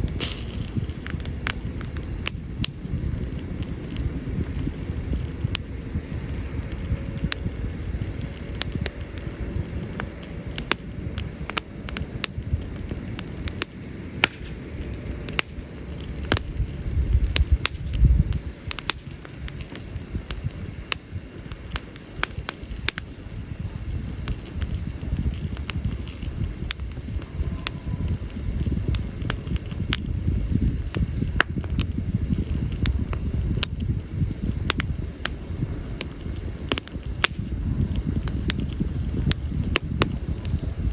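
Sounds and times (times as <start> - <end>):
campfire crackling and popping: 0.0 - 40.9
low fire rumble: 0.0 - 40.9.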